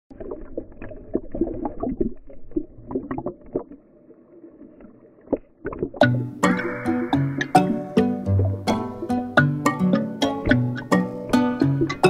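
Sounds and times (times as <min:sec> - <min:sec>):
muffled water sloshing and splashing: 0:00.1 - 0:12.0.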